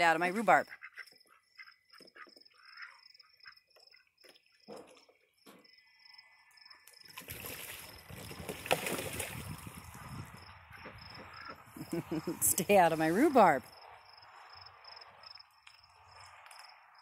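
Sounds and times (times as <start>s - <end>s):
crickets chirping: 0.6s - 8.4s, 9.2s - 12.4s, 13.6s - 17.0s.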